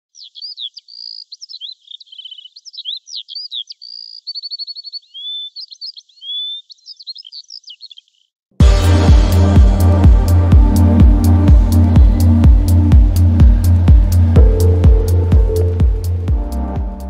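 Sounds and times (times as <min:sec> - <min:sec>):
songbird singing: 0:00.0 - 0:08.4, 0:10.8 - 0:17.0.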